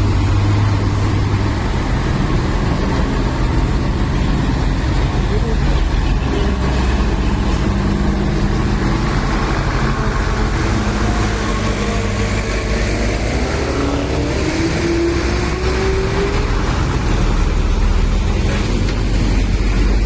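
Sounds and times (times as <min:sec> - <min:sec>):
truck engines rumbling: 0:00.0 - 0:20.0.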